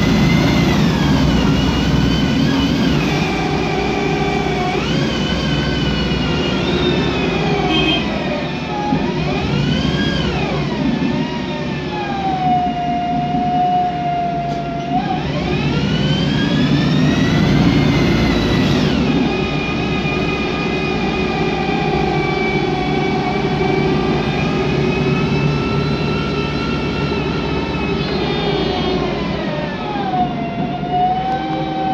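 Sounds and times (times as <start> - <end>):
bus gearbox whine: 0.0 - 12.1, 14.4 - 31.9
low engine running: 0.0 - 13.2, 14.5 - 31.9.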